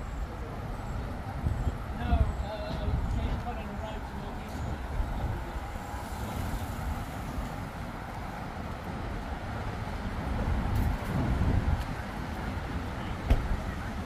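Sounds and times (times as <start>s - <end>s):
passing cars: 0.0s - 14.0s.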